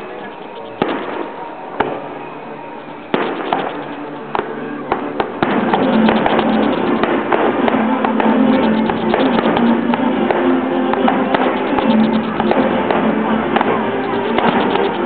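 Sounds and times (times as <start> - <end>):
music: 0.0 - 15.0
fireworks bursting in sharp bangs: 0.8 - 2.3, 3.1 - 15.0.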